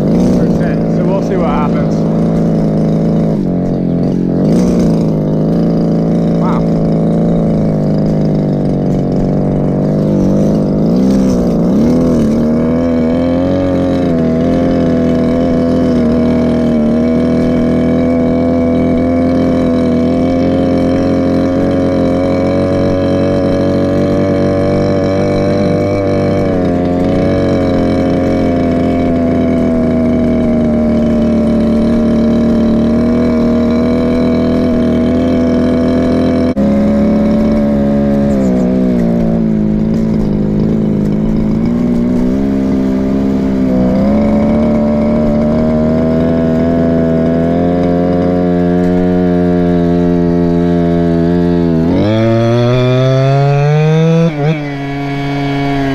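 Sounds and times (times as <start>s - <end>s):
small two-stroke engine running: 0.0s - 55.9s.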